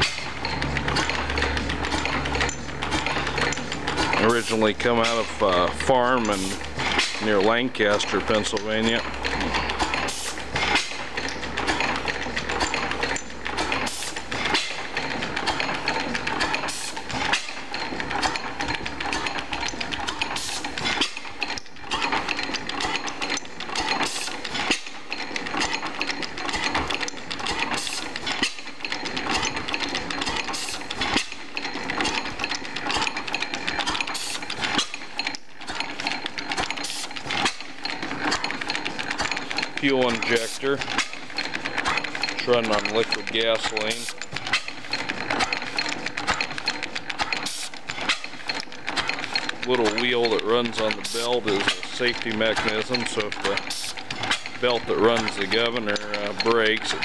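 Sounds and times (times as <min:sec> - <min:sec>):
engine clattering: 0:00.0 - 0:57.0.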